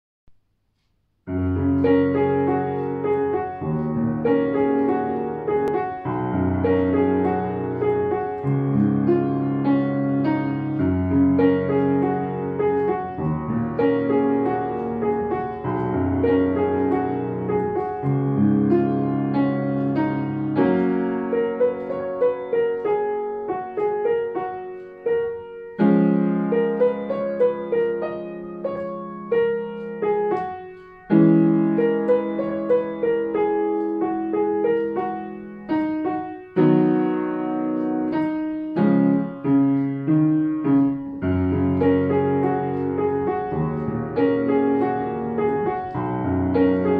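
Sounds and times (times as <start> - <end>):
upright piano melody: 1.2 - 46.9.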